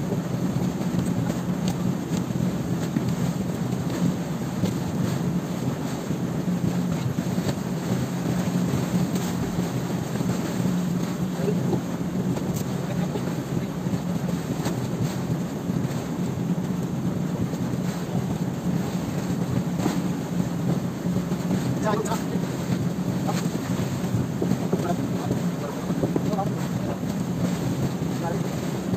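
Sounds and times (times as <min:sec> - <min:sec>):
boat engine running: 0:00.0 - 0:28.9
water rushing along hull: 0:00.0 - 0:28.9.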